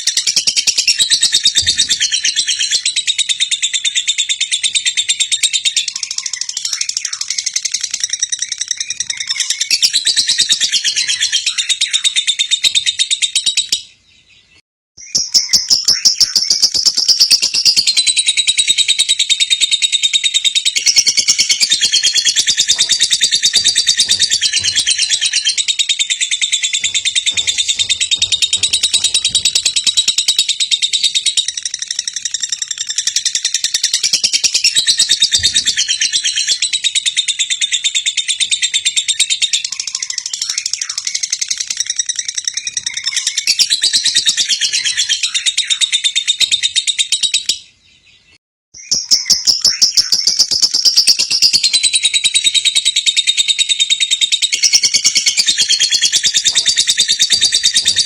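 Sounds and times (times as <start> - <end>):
bird chattering chirps: 0.0 - 13.8, 15.0 - 47.5, 48.8 - 58.0.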